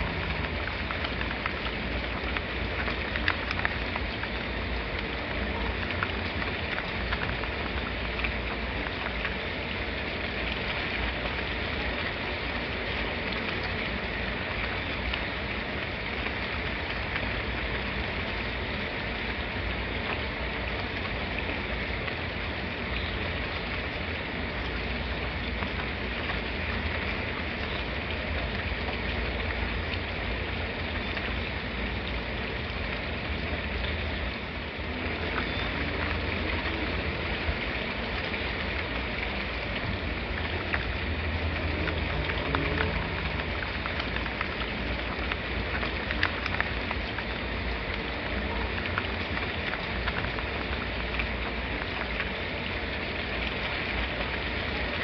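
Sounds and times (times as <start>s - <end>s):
raindrop ticks: 0.0s - 55.0s
steady rain hiss: 0.0s - 55.0s.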